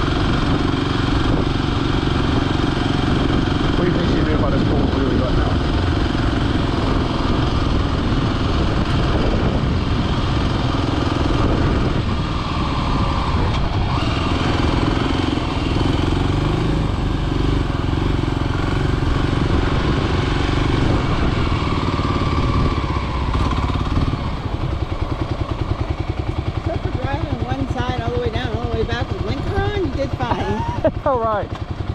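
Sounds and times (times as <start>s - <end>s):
motorcycle engine idling: 0.0s - 31.9s
motorcycle engine running: 0.0s - 31.9s.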